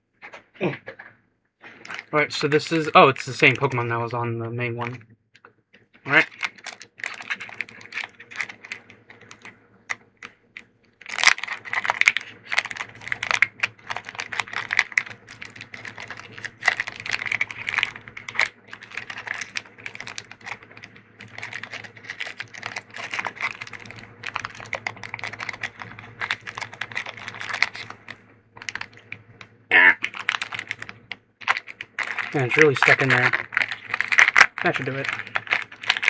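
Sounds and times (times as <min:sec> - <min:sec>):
foil wrapper crackling: 0:01.6 - 0:04.2, 0:05.7 - 0:36.0.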